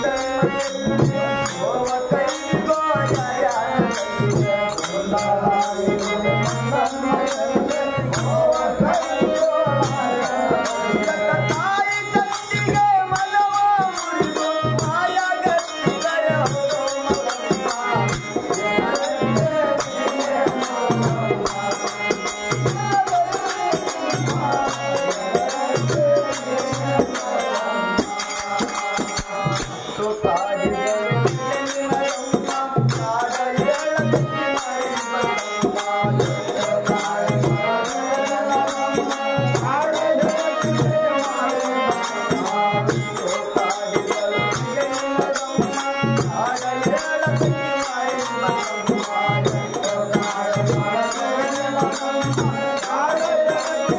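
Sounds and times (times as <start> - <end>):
jingling percussion: 0.0 - 53.9
person singing: 0.0 - 53.9.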